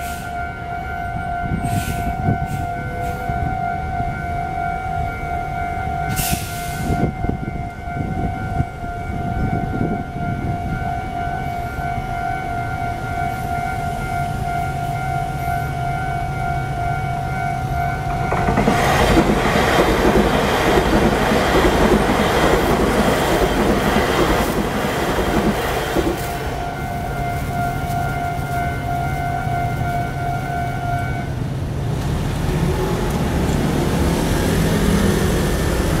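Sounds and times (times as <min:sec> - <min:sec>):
level crossing warning tone: 0:00.0 - 0:31.4
electric train rumbling past: 0:00.0 - 0:36.0.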